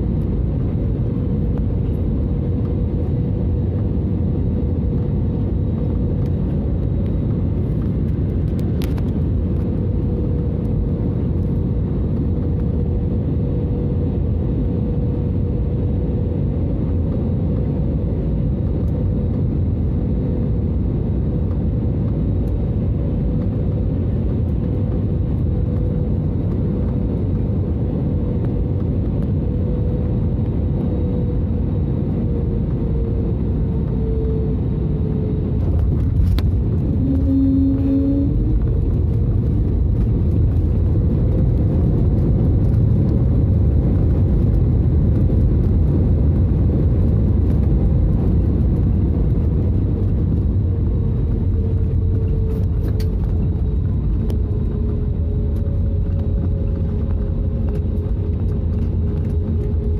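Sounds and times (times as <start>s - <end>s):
faint engine whine: 0.0s - 59.9s
jet engine and rolling rumble: 0.0s - 59.9s.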